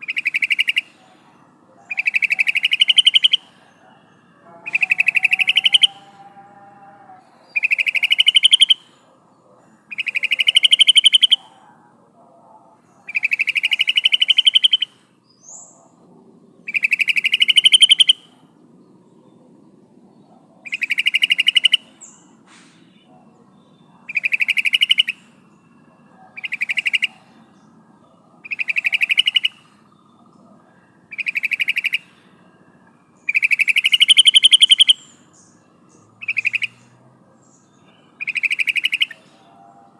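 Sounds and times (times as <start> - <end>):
bulbul chattering calls: 0.0 - 6.3, 7.4 - 18.5, 20.1 - 32.4, 33.2 - 39.9.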